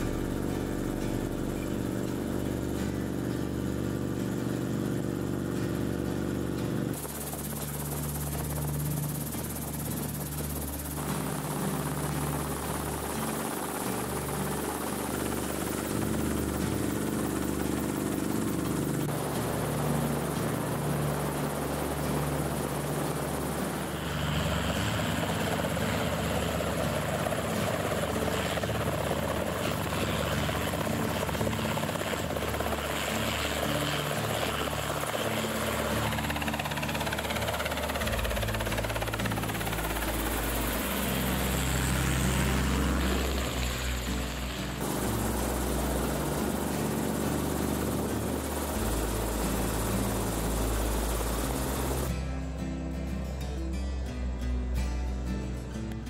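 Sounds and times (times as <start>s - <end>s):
helicopter rotor throb: 0.0s - 52.2s
helicopter engine drone: 0.0s - 53.5s.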